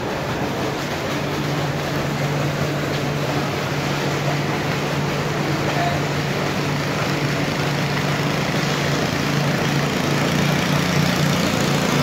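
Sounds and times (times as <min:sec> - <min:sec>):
water gushing and splashing: 0:00.0 - 0:12.0
water pump motor running: 0:00.0 - 0:12.0.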